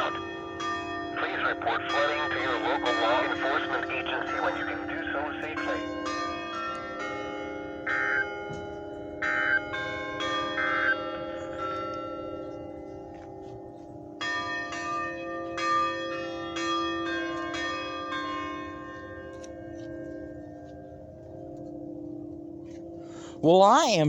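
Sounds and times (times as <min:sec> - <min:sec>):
tower chime bells ringing: 0:00.0 - 0:24.0.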